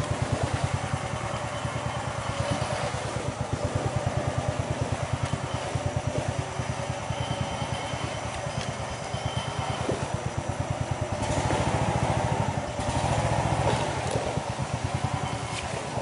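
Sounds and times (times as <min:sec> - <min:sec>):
small boat engine running: 0:00.0 - 0:16.0.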